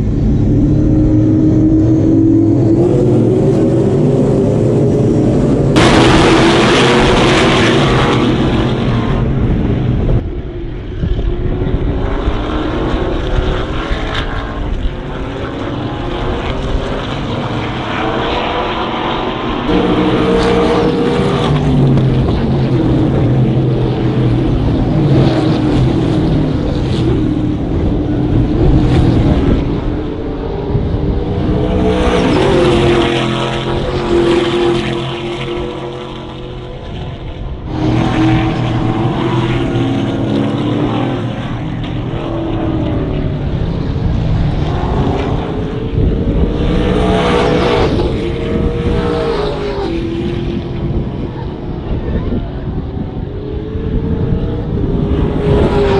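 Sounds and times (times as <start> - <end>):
race car engines revving: 0.0 - 55.9.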